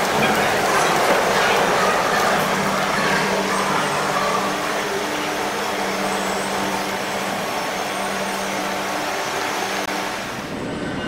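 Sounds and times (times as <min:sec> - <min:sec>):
two-tone machine hum: 0:00.0 - 0:11.0.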